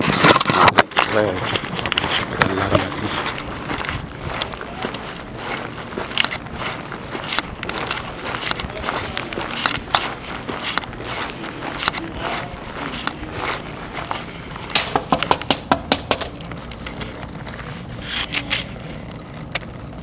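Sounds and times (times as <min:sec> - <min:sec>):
phone being handled rustling: 0:00.0 - 0:19.8.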